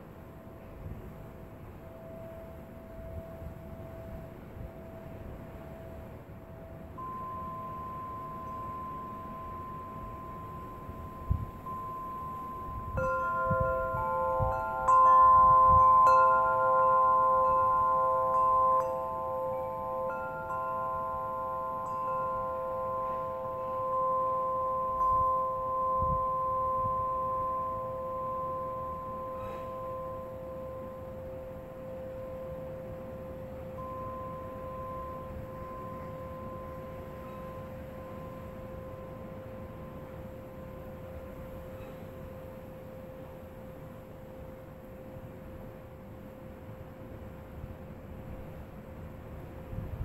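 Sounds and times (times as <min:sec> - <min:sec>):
wind chime ringing: 0:00.7 - 0:47.6.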